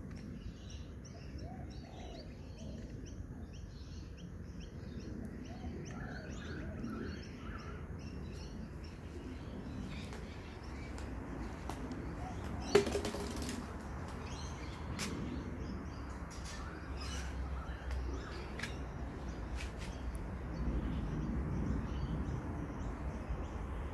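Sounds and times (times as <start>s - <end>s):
birds chirping: 0.2s - 23.9s.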